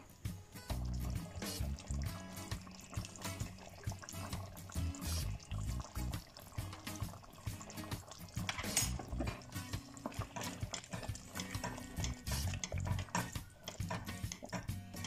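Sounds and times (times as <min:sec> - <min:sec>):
background music: 0:00.0 - 0:15.0
water pouring and stirring: 0:00.0 - 0:15.0.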